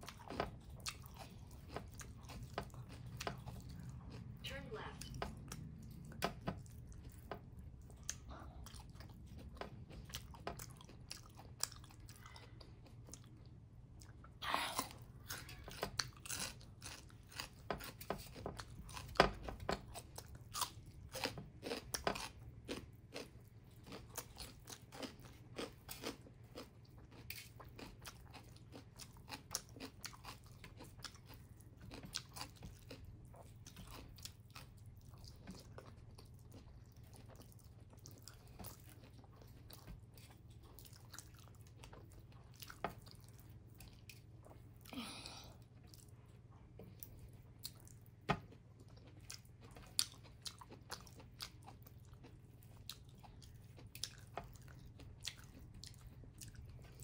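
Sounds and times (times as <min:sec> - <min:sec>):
person chewing and crunching: 0:00.0 - 0:57.0.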